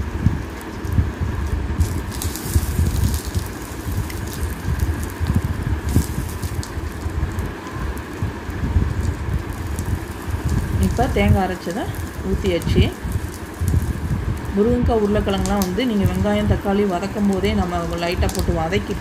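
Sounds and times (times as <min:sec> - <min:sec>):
curry bubbling in a pot: 0:00.0 - 0:19.0.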